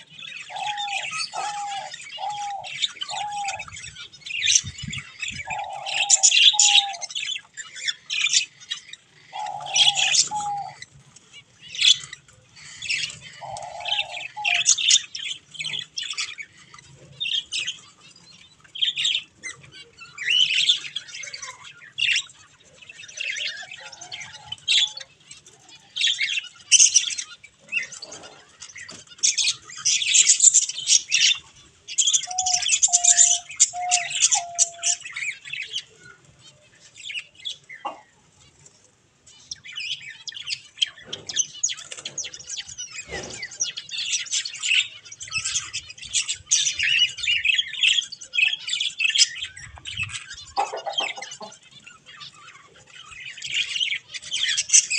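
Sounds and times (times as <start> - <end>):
budgerigar chicks chirping: 0.0 - 54.9.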